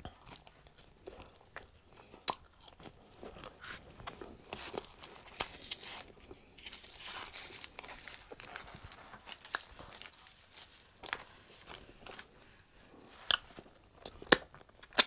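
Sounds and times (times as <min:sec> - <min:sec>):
chewing crunchy potato wedge: 0:00.0 - 0:15.0.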